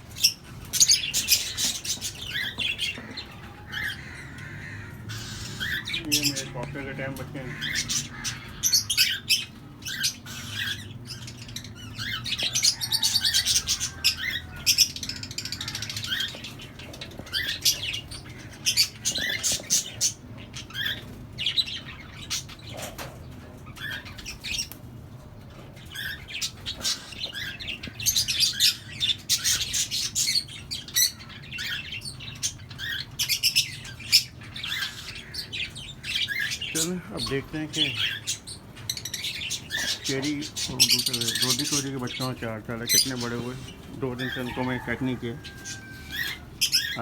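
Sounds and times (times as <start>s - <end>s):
parrots chirping and squawking: 0.0s - 47.0s.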